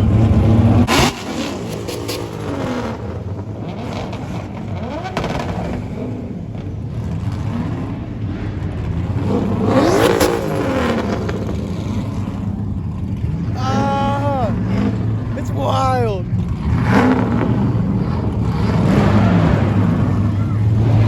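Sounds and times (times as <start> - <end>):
car engines idling and revving: 0.0 - 21.0.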